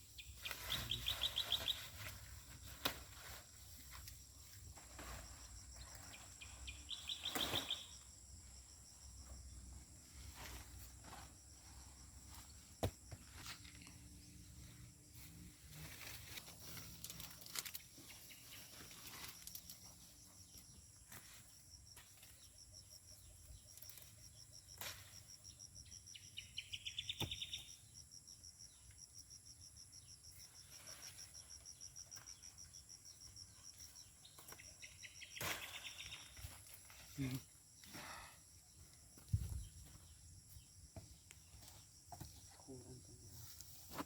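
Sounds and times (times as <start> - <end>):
cricket-like trilling: 3.2 - 43.7.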